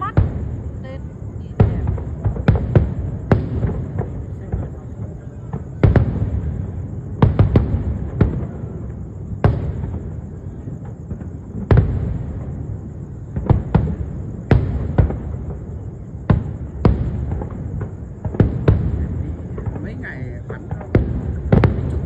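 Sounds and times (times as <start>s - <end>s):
fireworks bursting with echo: 0.0s - 22.0s.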